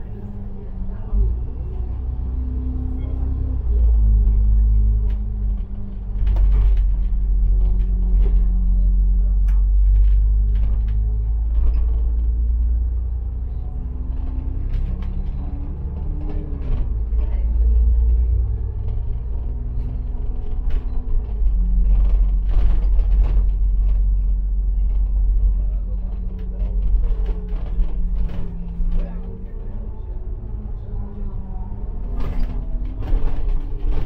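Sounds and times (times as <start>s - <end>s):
bus engine rumbling: 0.0s - 34.0s
bodywork clicks and rattles: 4.8s - 34.0s.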